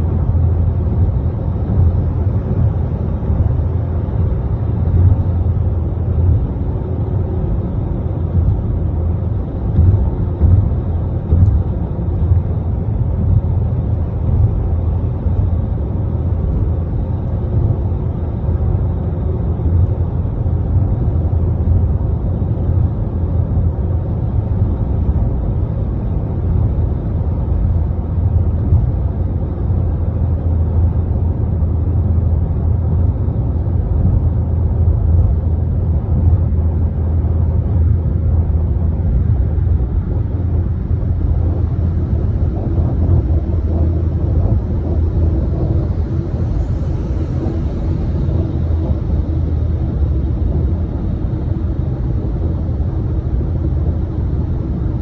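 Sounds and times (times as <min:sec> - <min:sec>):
vehicle road and wind noise: 0:00.0 - 0:55.0.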